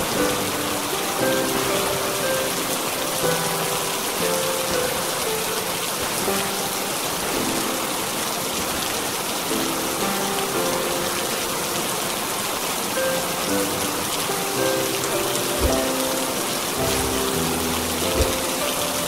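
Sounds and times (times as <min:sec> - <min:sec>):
soft slow music: 0:00.0 - 0:19.0
steady rain: 0:00.0 - 0:19.0.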